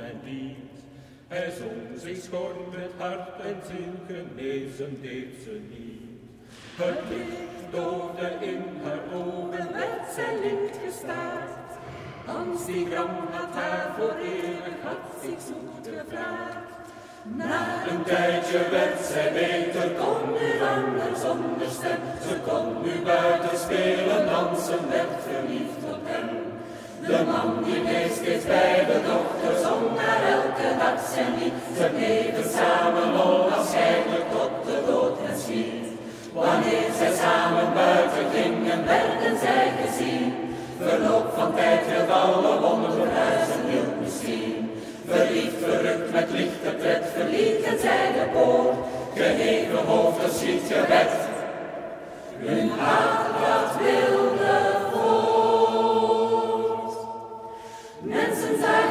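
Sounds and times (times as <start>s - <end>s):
mixed choir singing a cappella: 0.0s - 58.9s.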